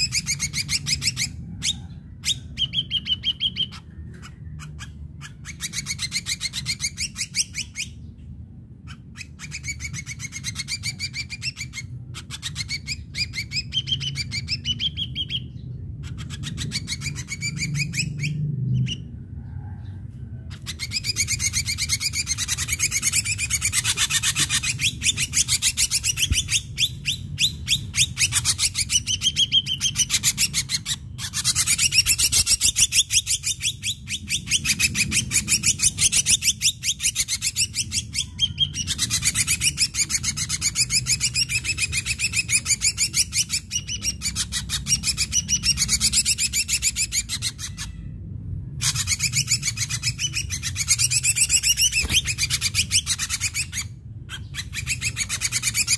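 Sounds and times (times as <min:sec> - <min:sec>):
bird chattering song: 0:00.0 - 0:48.1, 0:48.8 - 0:55.9.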